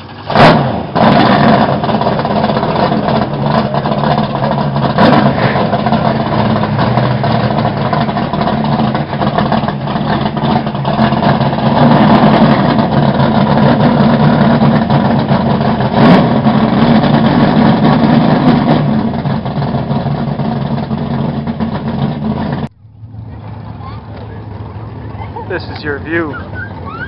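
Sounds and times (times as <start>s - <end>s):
car engine idling loudly: 0.0s - 27.0s.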